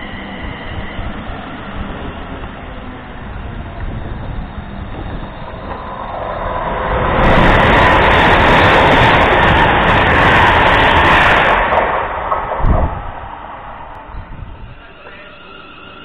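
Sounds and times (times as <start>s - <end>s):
fast train rushing past: 0.0s - 16.0s
train rumbling past: 0.0s - 16.0s.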